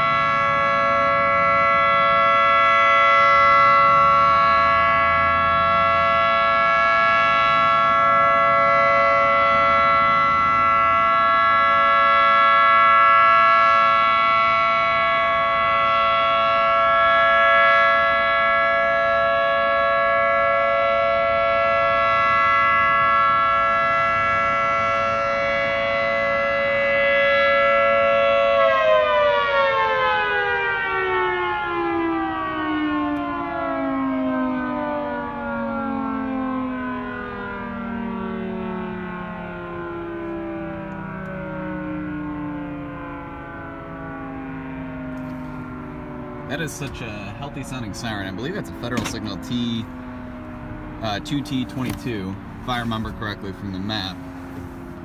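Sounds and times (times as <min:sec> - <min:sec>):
dual-tone warning siren: 0:00.0 - 0:55.0.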